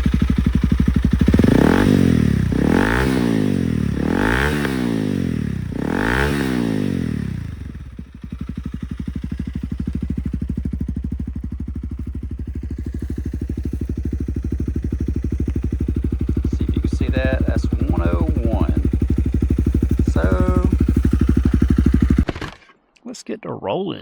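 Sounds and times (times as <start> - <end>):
motorcycle engine revving and idling: 0.0 - 22.4.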